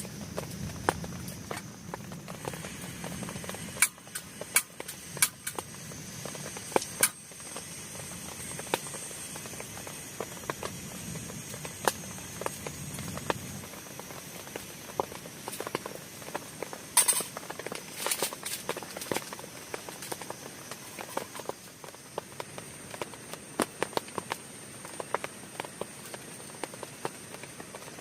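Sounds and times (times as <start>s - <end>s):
rain on a plastic tarp: 0.0s - 28.0s.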